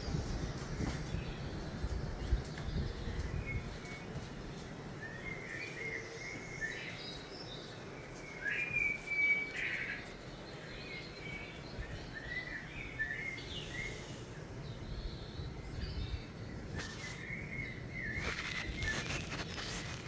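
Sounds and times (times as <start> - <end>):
birds chirping from tv speakers: 0.0 - 20.0
steady background noise: 0.0 - 20.0.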